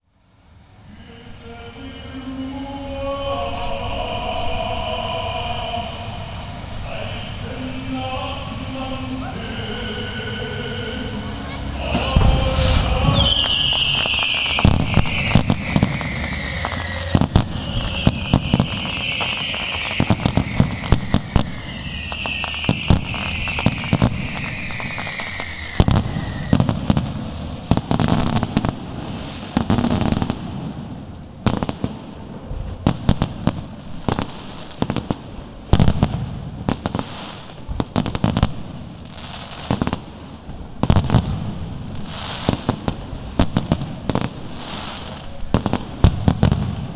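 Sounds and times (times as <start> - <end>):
falling whistling fireworks: 0.5 - 46.9
fireworks bangs and crackling: 0.8 - 46.9.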